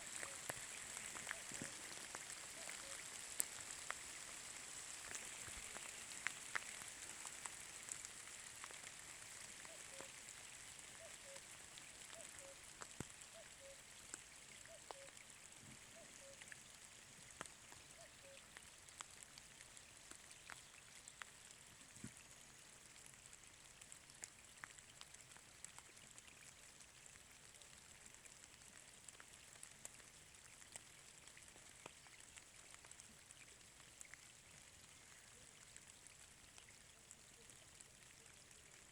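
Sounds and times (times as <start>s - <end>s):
light rain hissing: 0.0s - 38.9s
raindrops ticking: 0.0s - 38.9s.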